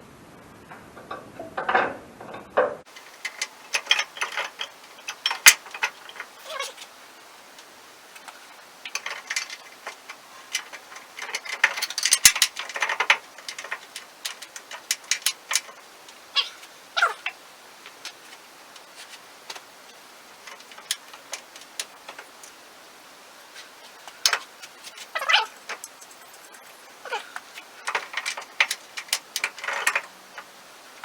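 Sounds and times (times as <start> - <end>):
parts clinking and knocking: 1.0 - 31.0.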